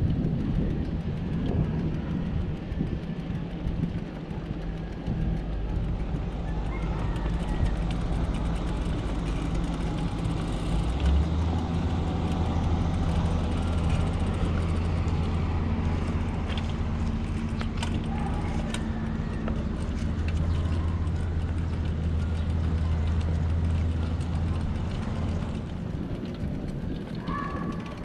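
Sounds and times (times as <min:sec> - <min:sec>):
engine humming close by: 0:00.0 - 0:28.0
traffic: 0:00.0 - 0:28.0.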